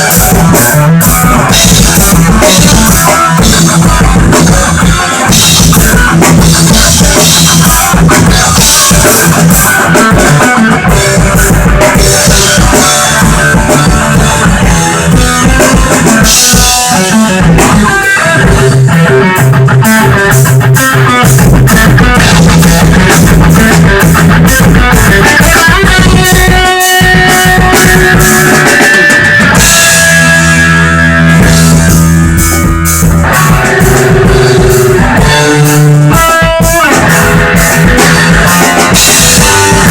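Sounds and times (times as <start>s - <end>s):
drum kit: 0.0s - 39.9s
electric guitar playing: 0.0s - 39.9s.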